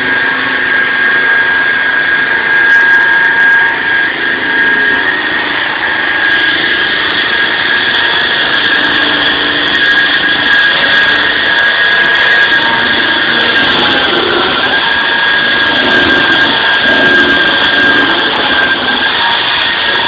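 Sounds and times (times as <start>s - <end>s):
concrete saw running with whine: 0.0s - 20.0s.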